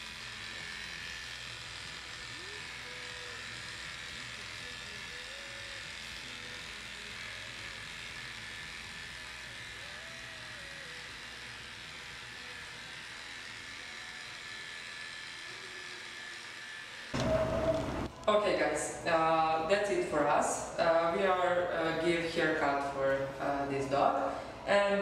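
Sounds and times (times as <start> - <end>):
electric clippers buzzing: 0.0 - 25.0.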